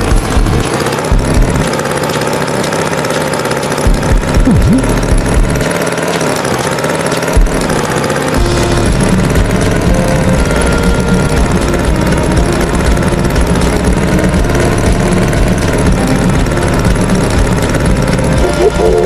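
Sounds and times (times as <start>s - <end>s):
loud engine running: 0.0s - 19.0s.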